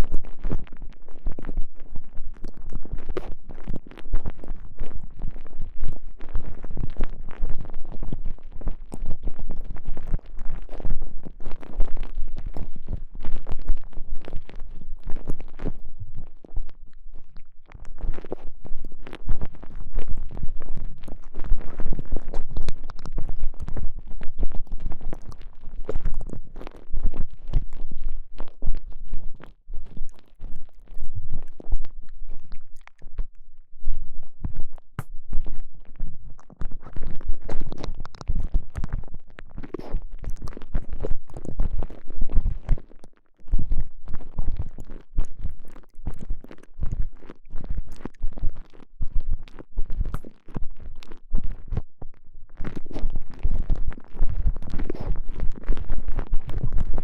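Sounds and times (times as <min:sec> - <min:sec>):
soft silicone squishing and crackling: 0:00.0 - 0:57.0.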